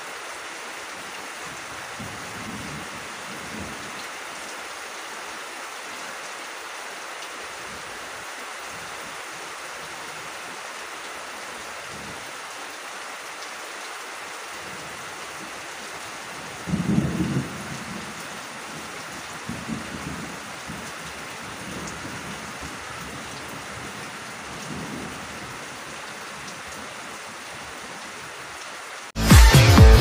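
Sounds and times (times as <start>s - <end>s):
rain falling on foliage: 0.0s - 29.2s.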